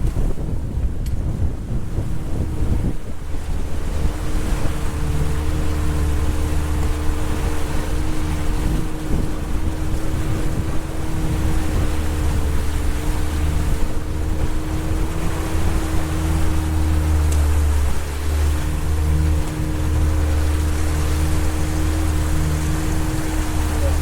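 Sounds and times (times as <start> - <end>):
boat motor whining: 0.0 - 24.0
water rushing past hull: 0.0 - 24.0
wind buffeting microphone: 0.0 - 24.0.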